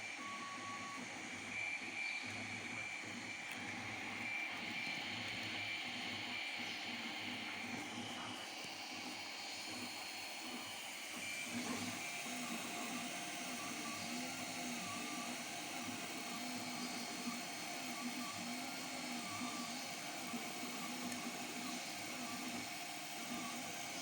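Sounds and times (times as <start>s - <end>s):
cooling fans hissing: 1.5s - 24.0s
stepper motors whining: 1.5s - 24.0s.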